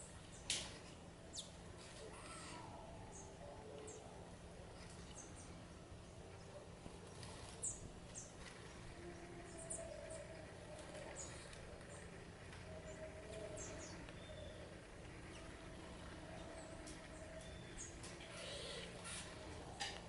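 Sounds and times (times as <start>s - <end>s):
small songbirds chirping: 0.0s - 2.0s, 4.7s - 20.0s
faint steady background hum: 0.0s - 20.0s.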